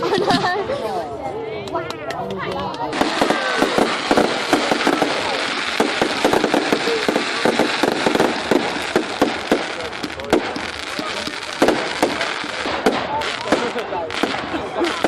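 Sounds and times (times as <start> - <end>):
faint crowd voices: 0.0 - 15.0
fireworks popping and crackling: 1.7 - 15.0.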